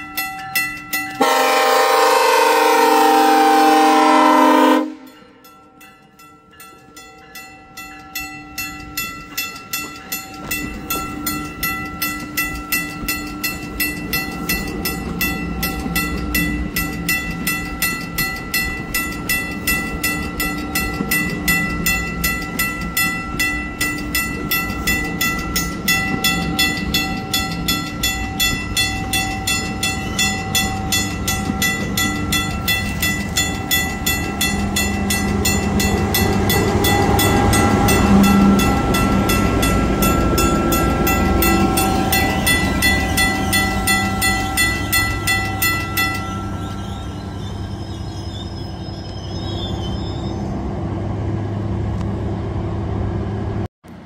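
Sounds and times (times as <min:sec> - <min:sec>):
railway crossing bell ringing: 0:00.0 - 0:50.5
train rumble: 0:00.0 - 0:54.0.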